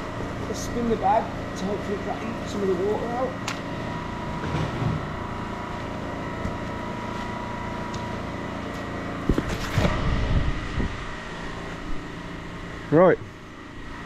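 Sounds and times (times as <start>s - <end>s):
mechanical drone with high whine: 0.0s - 14.0s.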